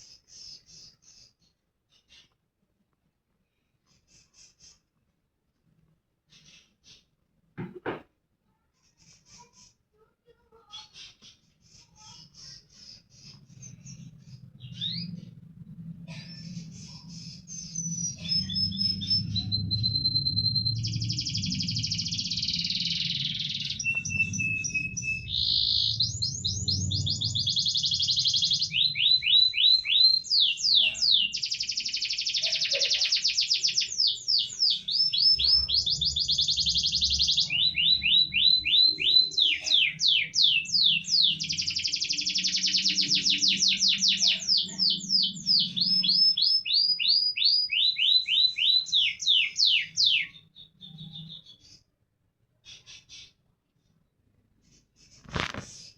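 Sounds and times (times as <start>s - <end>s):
canary singing trills: 0.0s - 2.4s, 6.3s - 7.2s, 8.8s - 52.0s, 52.6s - 53.5s.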